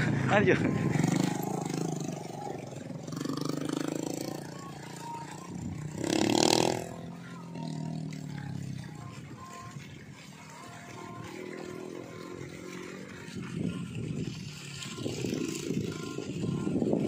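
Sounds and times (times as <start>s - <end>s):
motorbike engine riding away: 0.0s - 17.0s.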